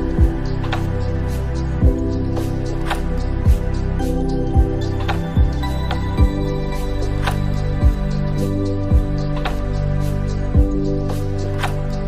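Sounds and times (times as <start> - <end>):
soft music with held chords: 0.0 - 12.0.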